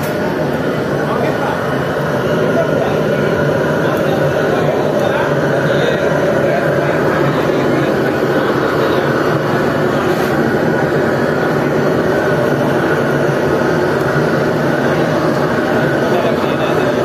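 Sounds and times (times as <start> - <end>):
furnace burner rushing: 0.0 - 17.0.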